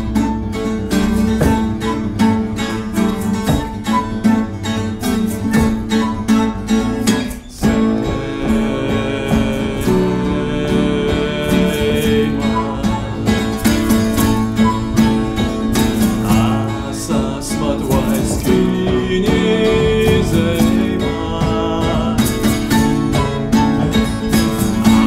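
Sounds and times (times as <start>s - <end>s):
flute melody: 0.0s - 25.0s
light hand percussion: 0.0s - 25.0s
strummed acoustic guitars: 0.0s - 25.0s.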